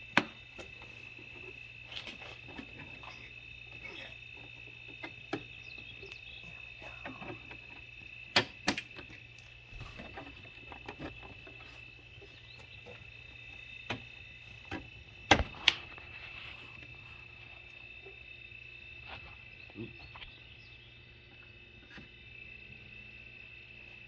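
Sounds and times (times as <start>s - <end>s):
steady high-pitched hum: 0.0s - 24.0s.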